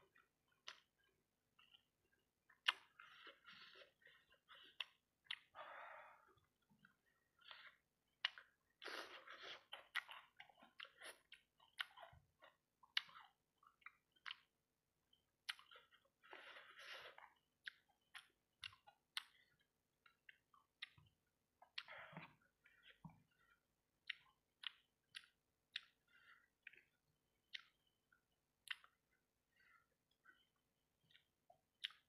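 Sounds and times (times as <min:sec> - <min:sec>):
close chewing with mouth smacks: 0:00.0 - 0:05.6, 0:06.2 - 0:32.0.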